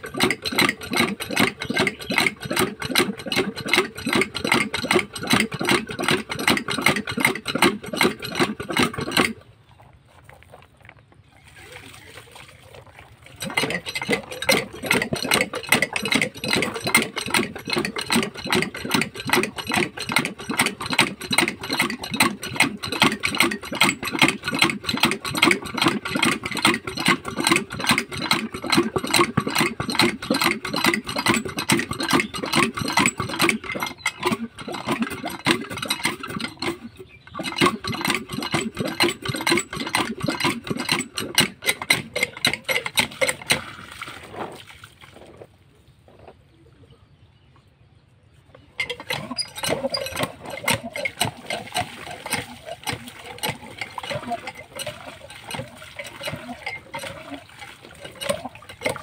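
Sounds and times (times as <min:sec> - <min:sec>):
diesel pump engine chugging: 0:00.0 - 0:10.6, 0:11.2 - 0:44.1, 0:48.6 - 0:59.0.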